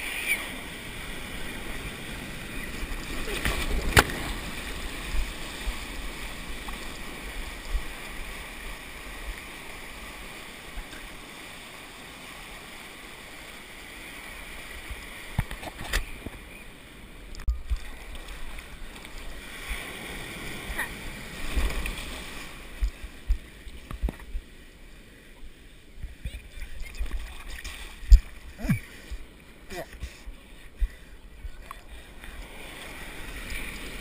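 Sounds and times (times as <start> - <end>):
water rushing and splashing: 0.0 - 34.0.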